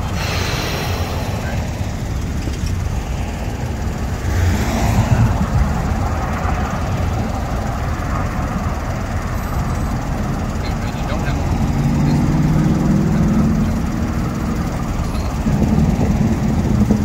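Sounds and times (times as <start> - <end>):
car passing: 0.0 - 14.8
road traffic: 0.0 - 17.0.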